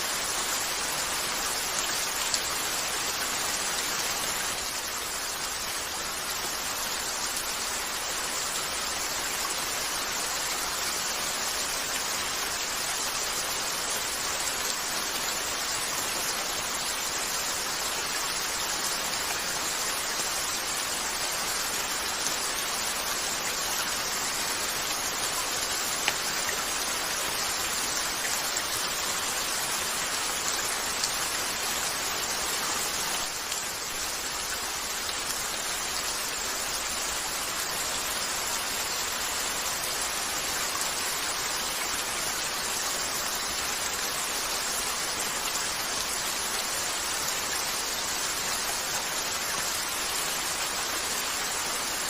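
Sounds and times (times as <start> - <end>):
rain on a window: 0.0 - 52.0.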